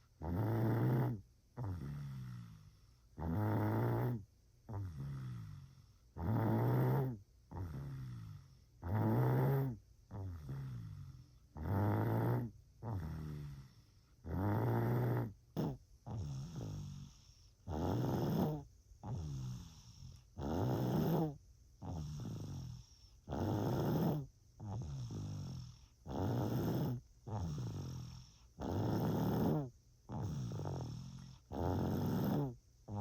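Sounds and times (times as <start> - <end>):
loud snoring: 0.2 - 33.0.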